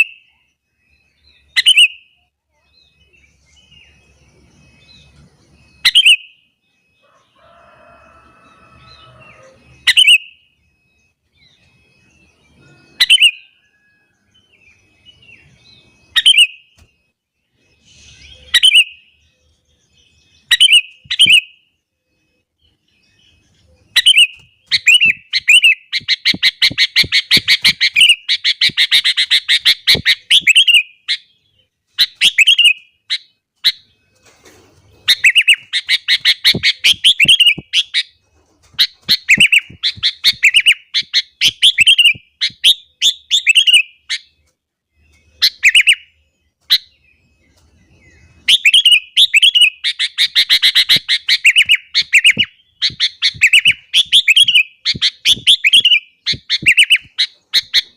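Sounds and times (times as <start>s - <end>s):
bird chattering song: 0.0s - 7.3s, 8.7s - 16.9s, 17.6s - 57.9s.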